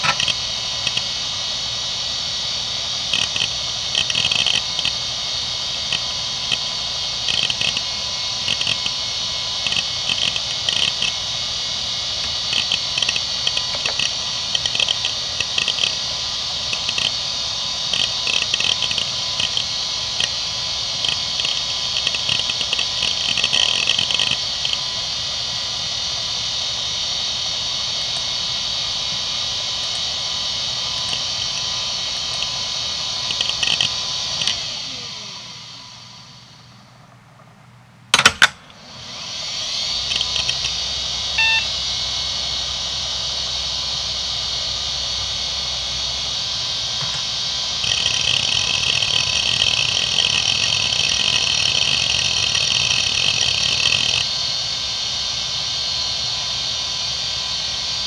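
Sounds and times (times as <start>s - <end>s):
hard drive seek clicking: 0.0s - 58.0s
hard drive whirring: 0.0s - 58.0s.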